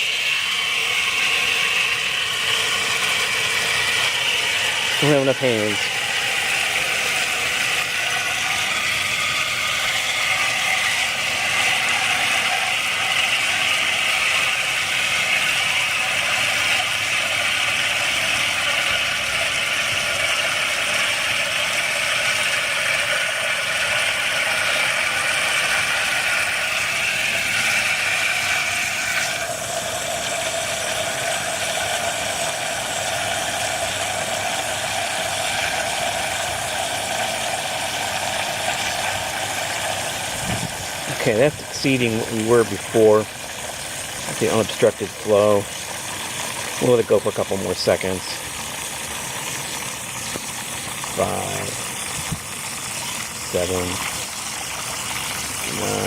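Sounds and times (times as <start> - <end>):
water pump running: 0.0 - 56.0.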